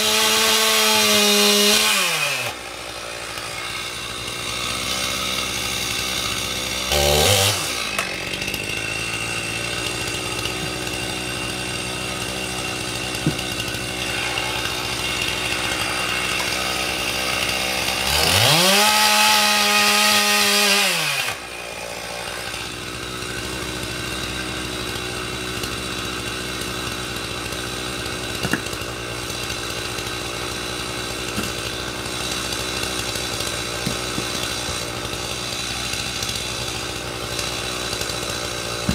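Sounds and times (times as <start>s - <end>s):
chainsaw cutting through log: 0.0s - 38.9s
chainsaw idling: 0.0s - 38.9s.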